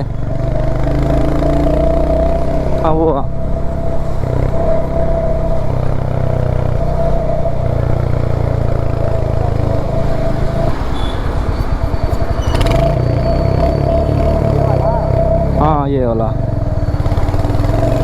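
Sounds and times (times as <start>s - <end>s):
droning buzz: 0.0s - 18.0s
motorcycle engine running: 0.0s - 18.0s.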